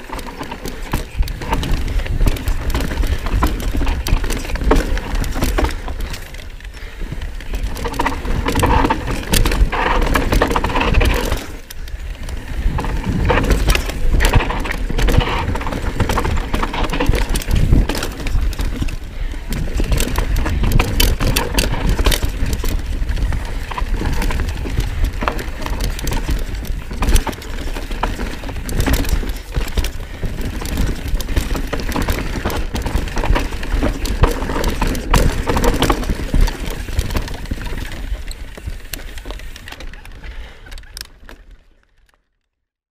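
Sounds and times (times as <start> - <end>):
bike knocks and clicks: 0.0 - 41.7
constant low rumble: 0.0 - 41.9.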